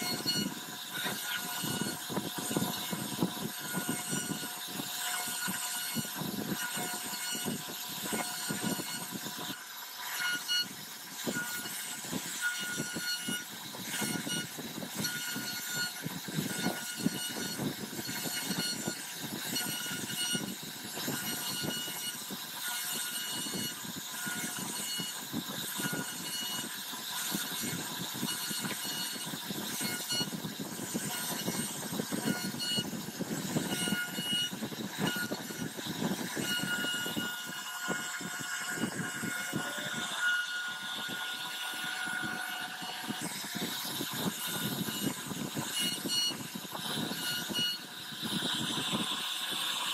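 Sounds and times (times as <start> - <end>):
cutter rasping through wood: 0.0 - 49.9
router spindle whining: 0.0 - 49.9.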